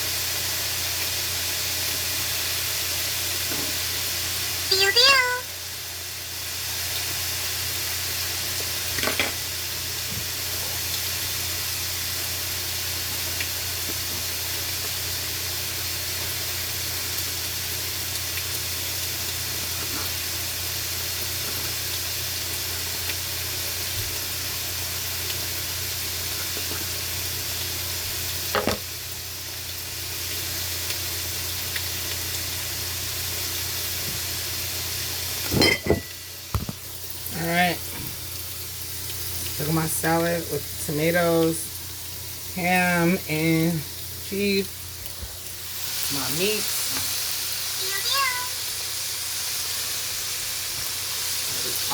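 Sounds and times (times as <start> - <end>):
chicken sizzling in a pan: 0.0 - 51.9.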